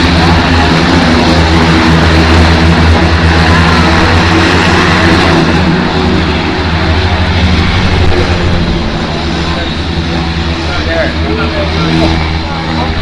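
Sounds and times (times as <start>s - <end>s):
turboprop aircraft engine running: 0.0s - 13.0s.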